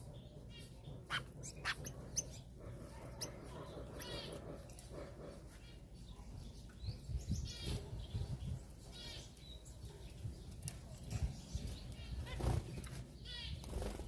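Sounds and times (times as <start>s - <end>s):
small birds chattering: 0.0s - 14.0s.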